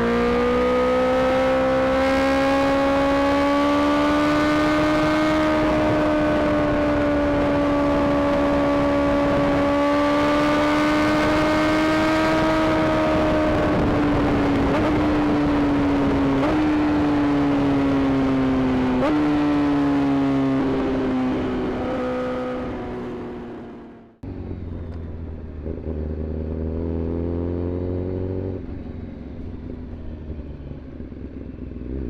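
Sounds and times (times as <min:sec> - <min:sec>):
motorcycle engine at high revs: 0:00.0 - 0:32.0.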